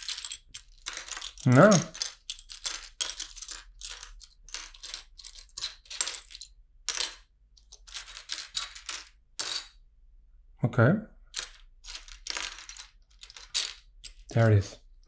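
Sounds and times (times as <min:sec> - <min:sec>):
plastic bricks clattering: 0:00.0 - 0:09.7, 0:11.3 - 0:14.7.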